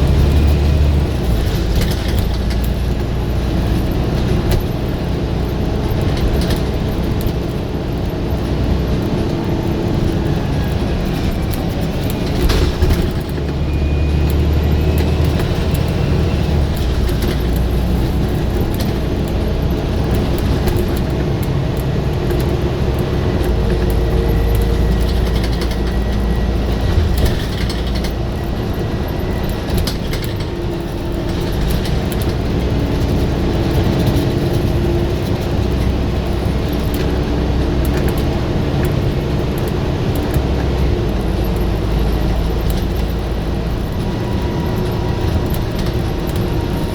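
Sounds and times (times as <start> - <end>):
bus engine droning under load: 0.0 - 46.9
short rattles and clicks: 0.1 - 46.9.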